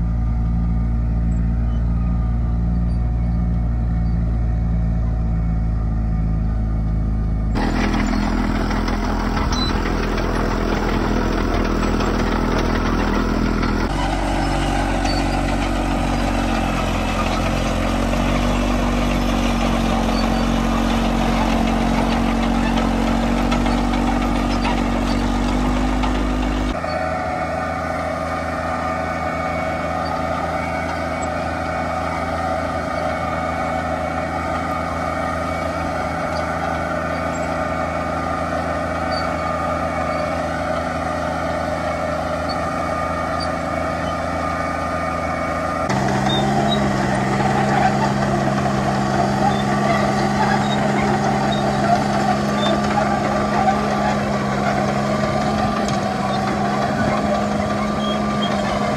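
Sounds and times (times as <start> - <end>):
crawler tractor diesel engine: 0.0 - 58.9
higher-pitched tractor engine: 0.0 - 58.9.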